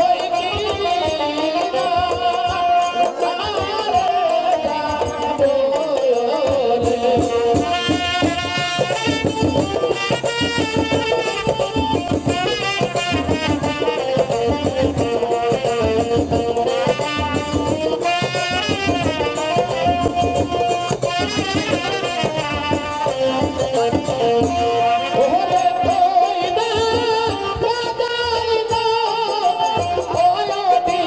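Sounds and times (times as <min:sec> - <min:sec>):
folk music melody: 0:00.0 - 0:31.0
steady drumming: 0:00.0 - 0:31.0.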